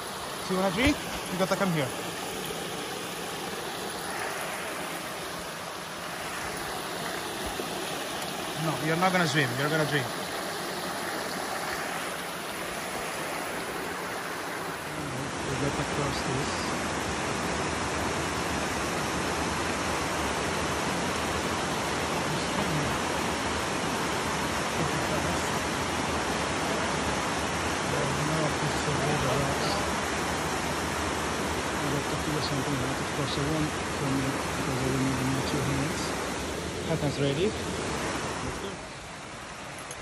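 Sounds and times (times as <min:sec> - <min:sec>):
creek running over stones: 0:00.0 - 0:40.0.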